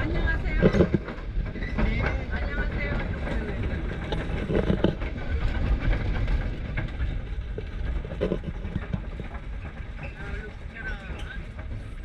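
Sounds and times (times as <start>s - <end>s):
engine and road rumble: 0.0s - 12.0s
wind buffeting microphone: 0.0s - 12.0s.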